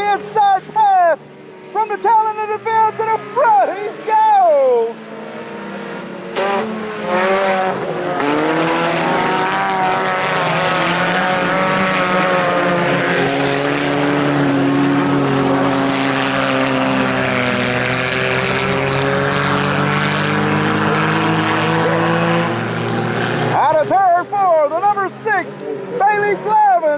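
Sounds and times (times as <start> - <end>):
race car engines: 0.0 - 26.9.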